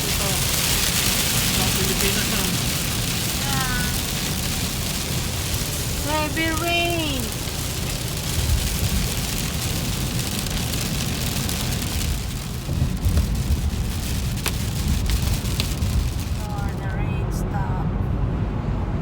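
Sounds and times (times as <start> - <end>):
rain and spray hiss: 0.0 - 17.2
tyres and engine rumble: 0.0 - 19.0.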